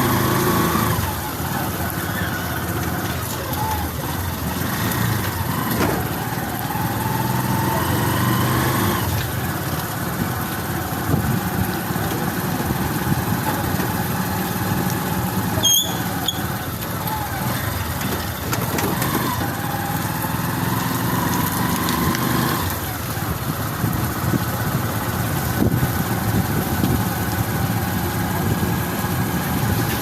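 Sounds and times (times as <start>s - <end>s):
road traffic noise: 0.0s - 30.0s
vehicle engine running: 0.0s - 30.0s.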